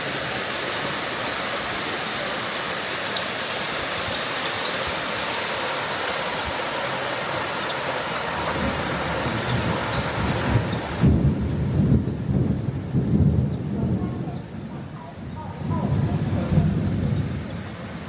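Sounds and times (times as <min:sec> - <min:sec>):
rushing water hiss: 0:00.0 - 0:13.2, 0:14.3 - 0:18.0.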